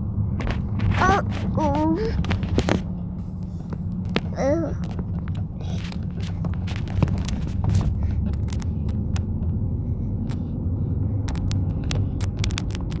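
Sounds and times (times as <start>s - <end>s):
car road rumble: 0.0s - 13.0s
sharp ticks and clicks: 0.4s - 13.0s.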